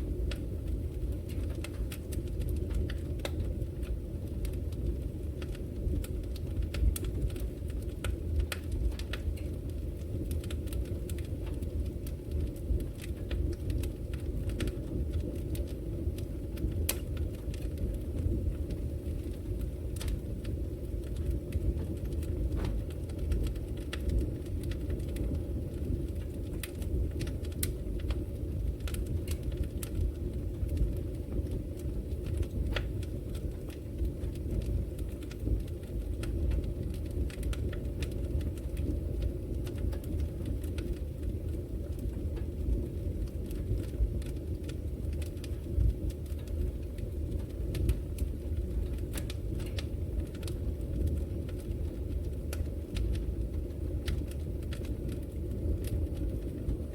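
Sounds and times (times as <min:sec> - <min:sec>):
fire crackles and pops: 0:00.0 - 0:56.9
flames rumbling: 0:00.0 - 0:56.9.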